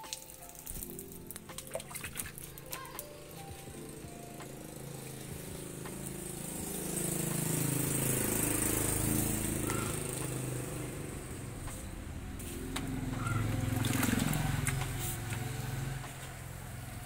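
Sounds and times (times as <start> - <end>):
vehicle engine passing by: 3.2 - 17.0.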